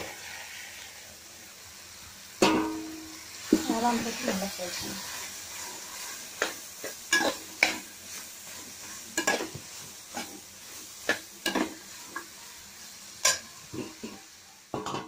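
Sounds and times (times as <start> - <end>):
mushrooms sizzling frying: 0.0 - 15.0.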